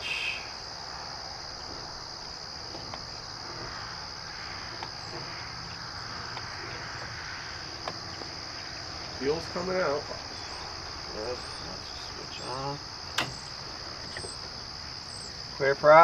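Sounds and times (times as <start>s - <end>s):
insect chorus trilling: 0.0s - 16.0s.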